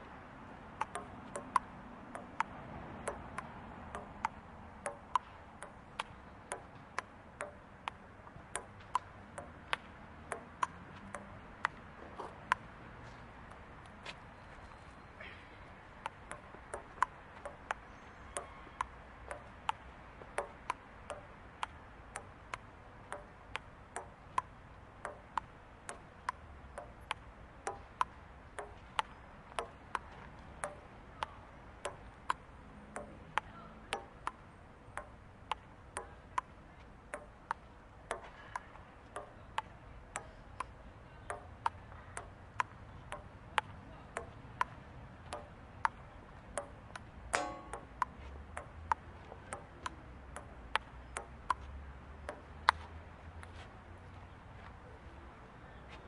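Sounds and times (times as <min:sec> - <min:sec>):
ping-pong ball hitting table and paddles: 0:00.8 - 0:14.0, 0:15.9 - 0:53.6.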